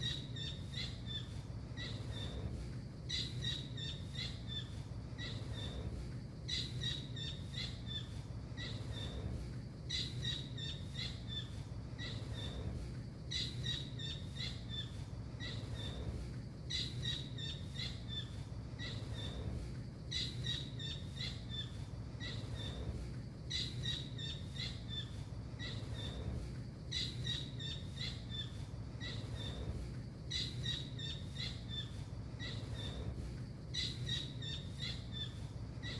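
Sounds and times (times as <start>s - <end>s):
bird calling high chirps: 0.0s - 9.3s, 9.9s - 12.7s, 13.3s - 16.1s, 16.7s - 19.5s, 20.1s - 22.9s, 23.5s - 26.3s, 26.9s - 35.9s
low hum: 0.0s - 35.9s.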